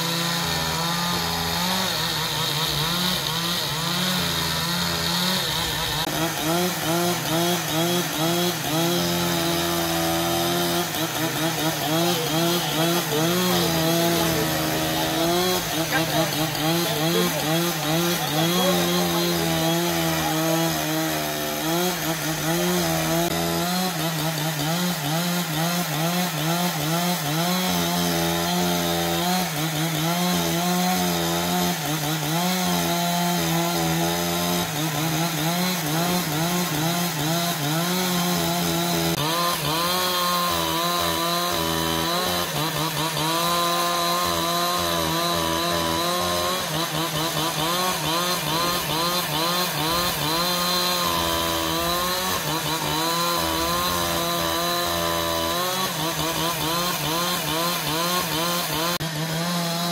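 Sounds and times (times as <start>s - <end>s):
power saw cutting wood: 0.0s - 59.9s.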